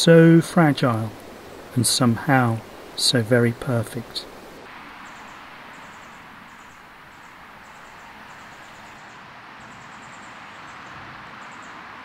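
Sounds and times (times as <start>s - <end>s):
small stream flowing: 0.0s - 12.0s.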